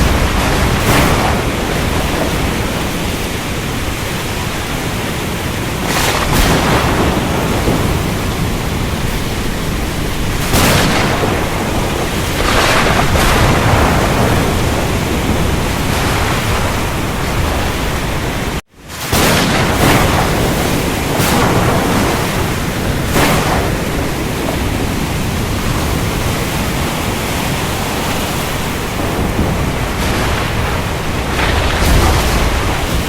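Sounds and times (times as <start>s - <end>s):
heavy rain: 0.0s - 33.0s
thunder cracks: 0.0s - 33.0s.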